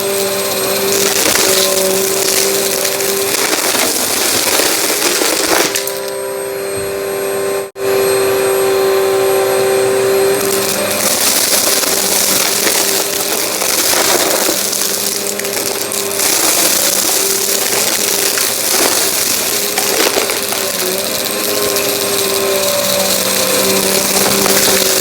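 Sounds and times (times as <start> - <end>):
debris crackling in vacuum: 0.0 - 6.1, 10.3 - 25.0
vacuum cleaner motor whine: 0.0 - 25.0.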